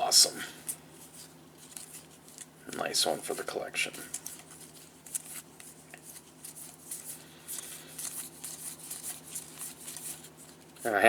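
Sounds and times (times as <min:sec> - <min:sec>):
trading cards rustling and clicking: 0:00.6 - 0:03.5, 0:04.1 - 0:11.0.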